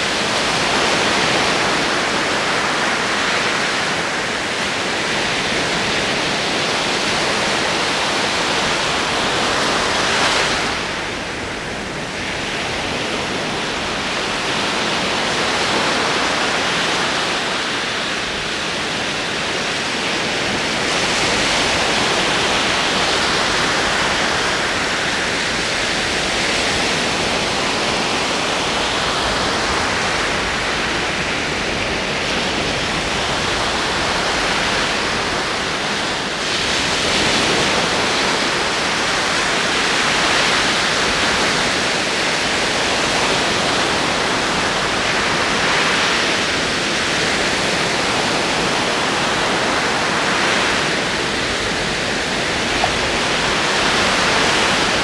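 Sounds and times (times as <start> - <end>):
ocean waves rolling in: 0.0 - 55.0.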